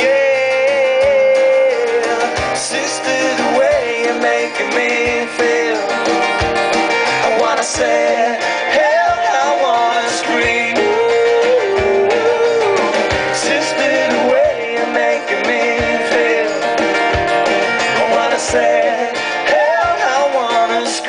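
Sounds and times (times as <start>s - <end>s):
bass drum beat: 0.0s - 20.8s
man singing: 0.0s - 21.0s
strummed acoustic guitar: 0.0s - 21.0s.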